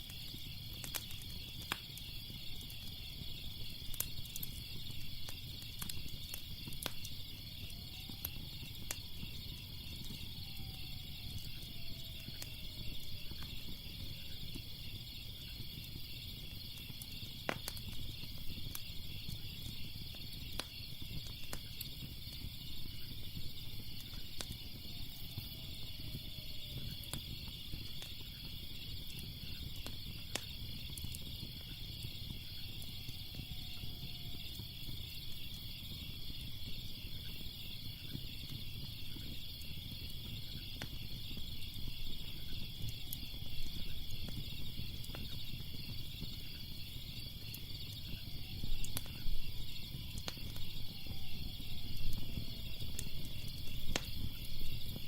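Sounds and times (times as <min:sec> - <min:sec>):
crickets chirping: 0:00.0 - 0:55.0
fire crackling and popping: 0:00.0 - 0:55.0
wood fire noise: 0:00.0 - 0:55.0.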